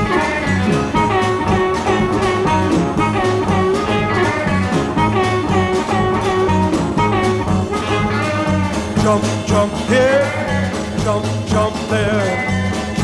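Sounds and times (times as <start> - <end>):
electric blues band playing: 0.0 - 13.0.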